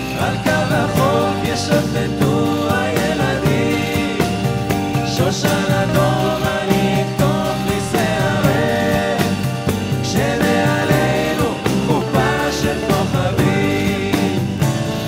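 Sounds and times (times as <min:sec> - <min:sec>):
drum kit: 0:00.0 - 0:15.0
live folk-rock band: 0:00.0 - 0:15.0
voices singing together: 0:00.0 - 0:15.0.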